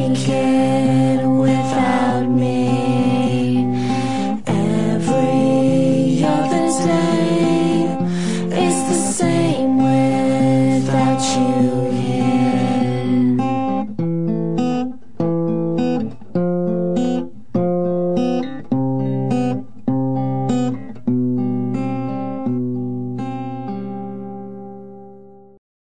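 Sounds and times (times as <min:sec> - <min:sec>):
guitar chords ringing: 0:00.0 - 0:25.5.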